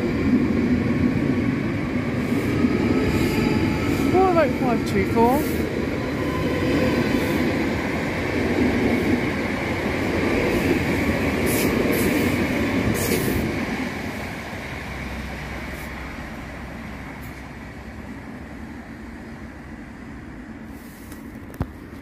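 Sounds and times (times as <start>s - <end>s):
train wheel rumble on rails: 0.0s - 22.0s.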